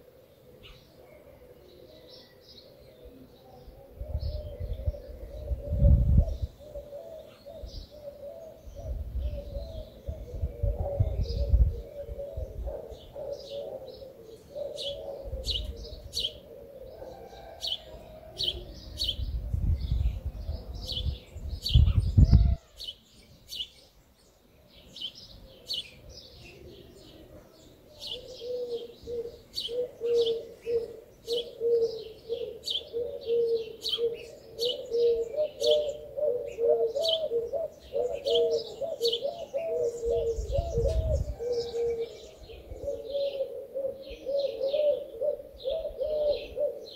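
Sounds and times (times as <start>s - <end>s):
pigeons cooing: 0.0s - 22.9s, 25.0s - 46.9s
small birds chirping: 6.3s - 46.9s.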